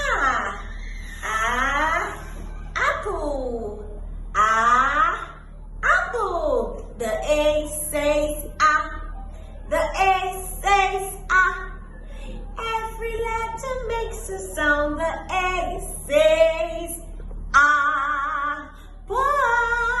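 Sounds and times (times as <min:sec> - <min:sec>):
high voice singing with vibrato: 0:00.0 - 0:20.0.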